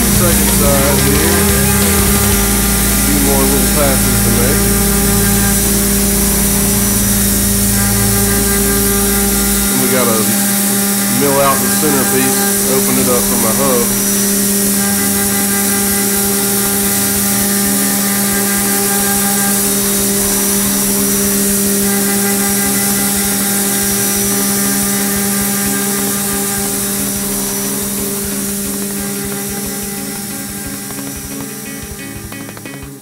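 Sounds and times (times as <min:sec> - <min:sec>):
coolant hissing: 0:00.0 - 0:33.0
milling machine cutting metal: 0:00.0 - 0:33.0.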